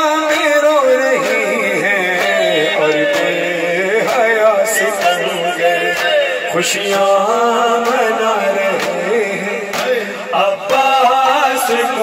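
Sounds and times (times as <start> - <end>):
man singing through loudspeaker: 0.0 - 12.0
steady beat: 0.0 - 12.0.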